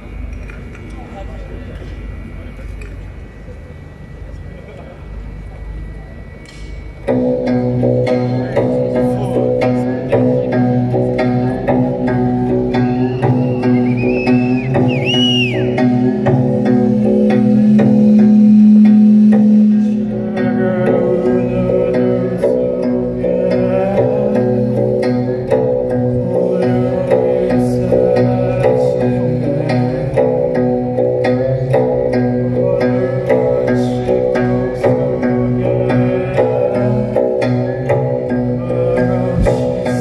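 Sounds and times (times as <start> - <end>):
low bass line: 4.2 - 40.0.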